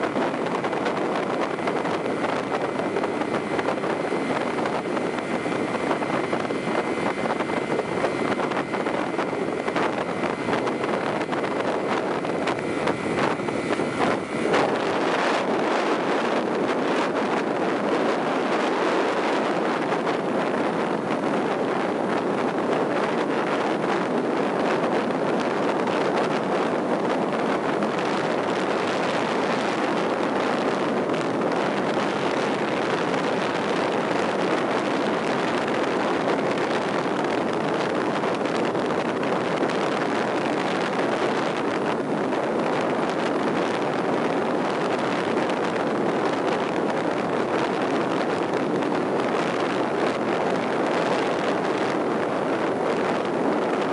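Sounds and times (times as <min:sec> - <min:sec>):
vehicle travelling at speed: 0:00.0 - 0:53.9
wind on microphone: 0:00.0 - 0:53.9.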